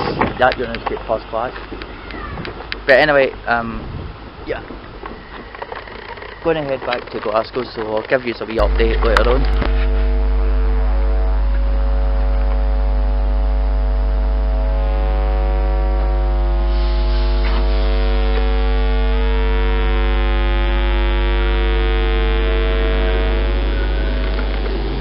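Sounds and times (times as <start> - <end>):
loud electrical hum: 0.0 - 25.0.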